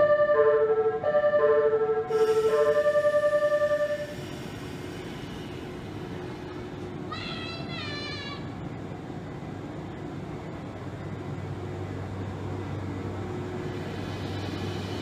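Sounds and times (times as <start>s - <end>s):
electric train pulling away: 0.0s - 7.0s, 9.7s - 15.0s.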